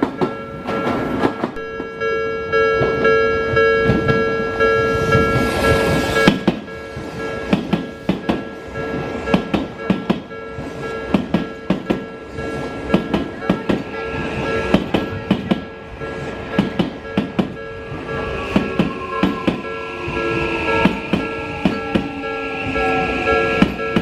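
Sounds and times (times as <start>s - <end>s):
train wheels clacking over rails: 0.0s - 1.9s, 5.0s - 24.0s
crossing warning bell: 0.0s - 24.0s.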